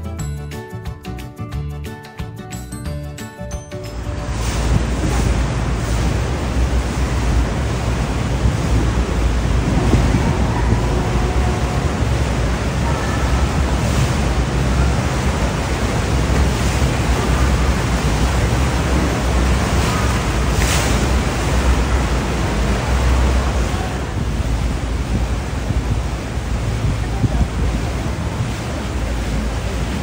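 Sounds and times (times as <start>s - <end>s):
heavy low rumble: 3.9s - 30.0s
loud rushing noise: 4.0s - 30.0s.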